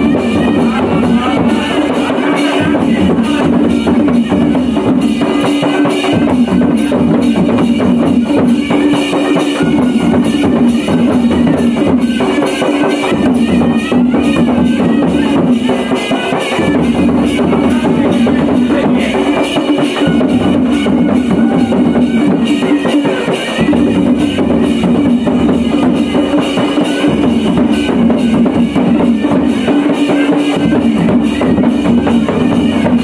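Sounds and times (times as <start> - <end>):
barrel drum beating: 0.0 - 33.0.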